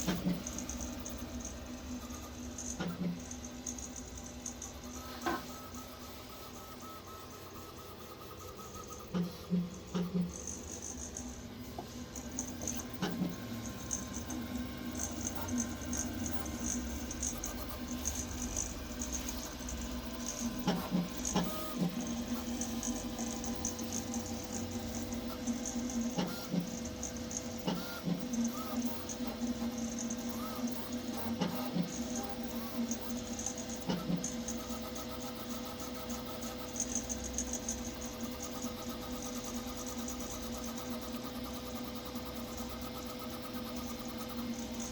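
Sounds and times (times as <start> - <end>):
printer motors humming: 0.0 - 44.9.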